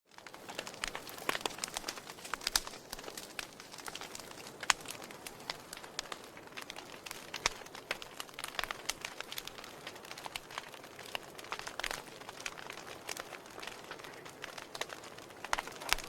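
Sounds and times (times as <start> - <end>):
wood fire crackling: 0.1 - 16.0.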